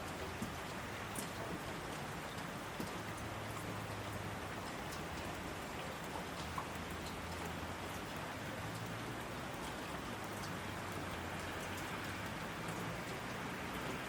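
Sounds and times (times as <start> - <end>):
raindrop ticks: 0.0 - 14.0
steady rain hiss: 0.0 - 14.0.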